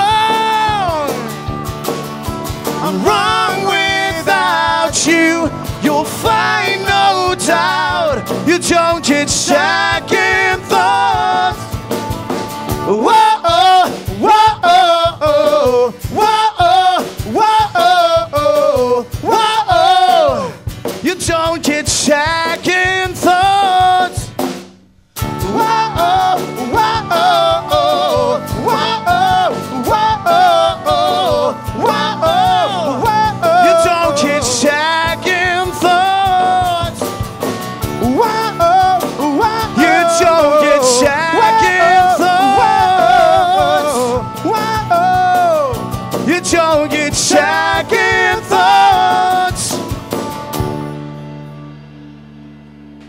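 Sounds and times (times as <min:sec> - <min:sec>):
man singing: 0:00.0 - 0:01.5, 0:02.7 - 0:11.9, 0:12.8 - 0:24.4, 0:25.3 - 0:37.2, 0:37.8 - 0:50.0
drum kit: 0:00.0 - 0:52.2
acoustic guitar: 0:00.0 - 0:53.0
bass guitar: 0:00.0 - 0:53.0
electric guitar: 0:00.0 - 0:53.0
live rock band: 0:00.0 - 0:53.0.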